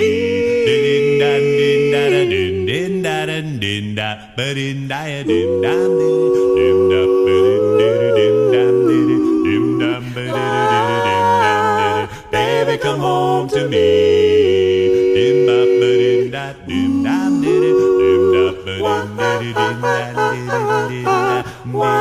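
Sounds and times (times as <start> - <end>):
vocal group singing harmony: 0.0 - 22.0.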